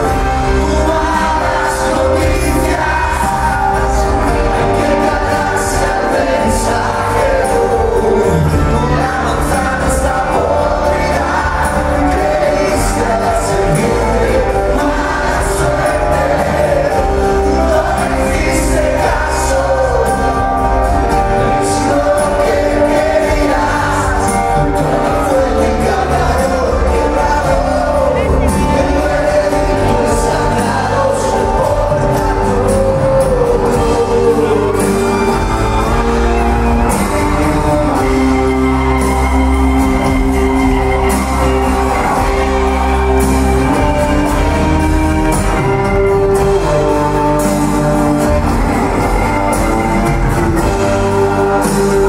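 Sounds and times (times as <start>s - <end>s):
live rock band: 0.0s - 52.0s
man singing: 0.0s - 52.0s.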